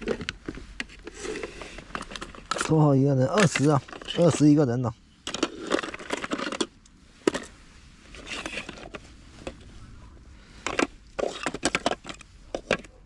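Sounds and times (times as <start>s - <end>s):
rustling of small objects: 0.0s - 13.0s.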